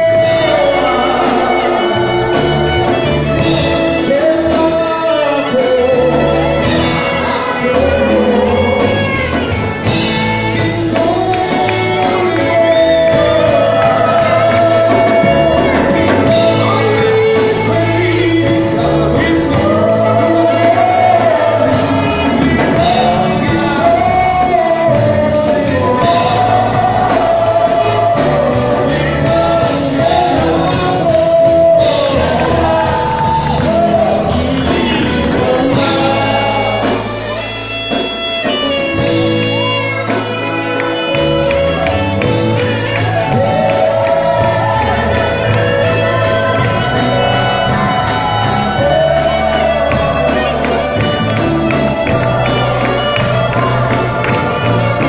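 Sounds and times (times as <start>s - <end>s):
gospel singers with band: 0.0s - 55.0s.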